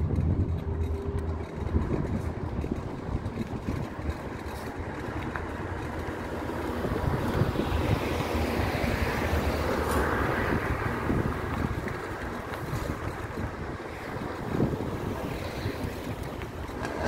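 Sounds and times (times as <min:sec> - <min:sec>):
street traffic: 0:00.0 - 0:17.0
wind rushing over microphone: 0:00.0 - 0:17.0.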